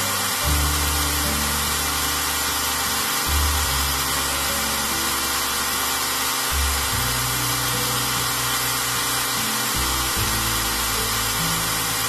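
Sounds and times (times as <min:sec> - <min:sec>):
belt grinder whirring: 0:00.0 - 0:12.0.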